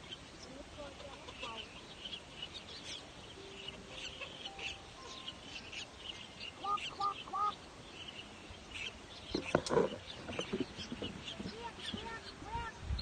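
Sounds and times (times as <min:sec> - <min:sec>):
nestling birds chirping: 0:00.0 - 0:13.0.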